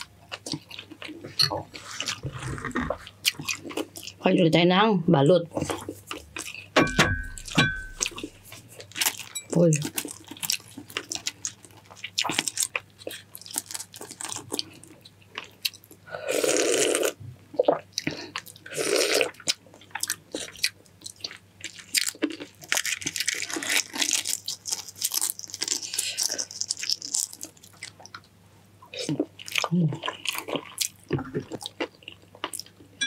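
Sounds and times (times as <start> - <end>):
wet chewing and crunching: 0.0 - 4.6, 5.5 - 33.0.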